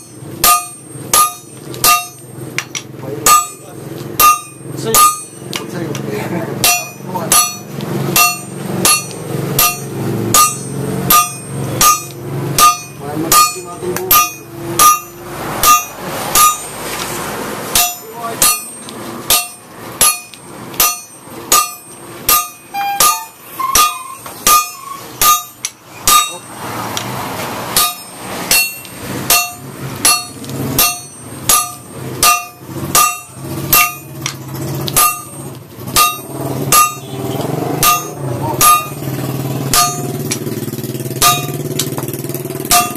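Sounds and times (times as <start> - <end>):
hammer ringing on anvil: 0.0 - 2.4, 3.2 - 5.7, 6.6 - 16.8, 17.7 - 26.6, 27.7 - 42.9.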